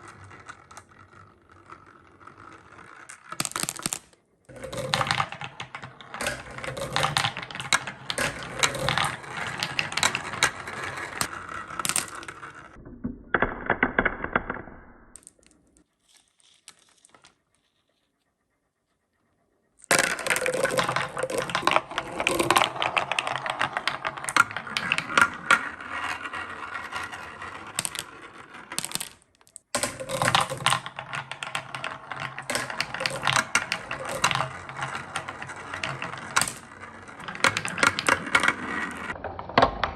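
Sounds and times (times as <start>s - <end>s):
marbles rolling on wooden run: 0.0s - 17.4s, 19.8s - 39.9s.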